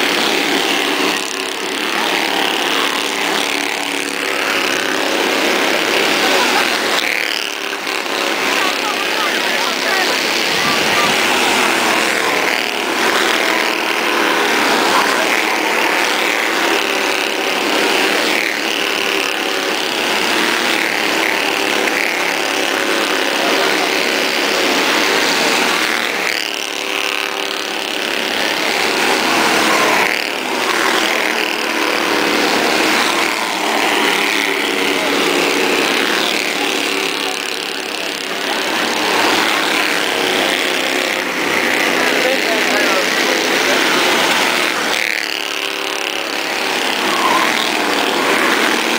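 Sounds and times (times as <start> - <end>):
race car engines buzzing: 0.0 - 48.9.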